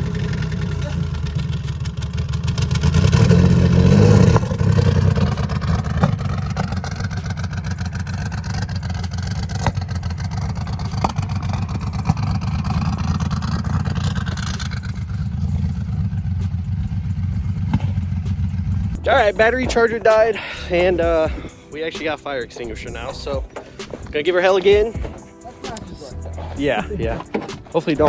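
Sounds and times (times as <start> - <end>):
engine revving hard: 0.0 - 23.4.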